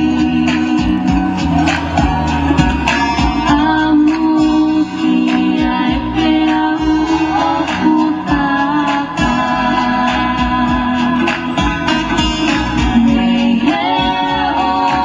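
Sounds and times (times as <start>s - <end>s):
person singing: 0.0s - 15.0s
plucked guitar: 0.0s - 15.0s
steady beat: 0.0s - 15.0s.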